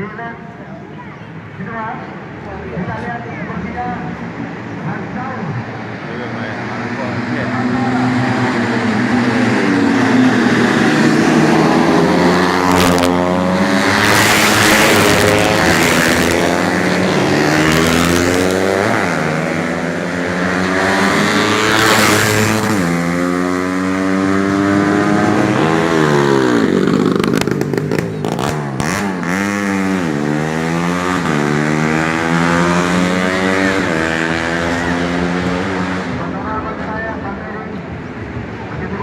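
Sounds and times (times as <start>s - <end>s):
racing motorcycles accelerating: 2.0s - 39.0s.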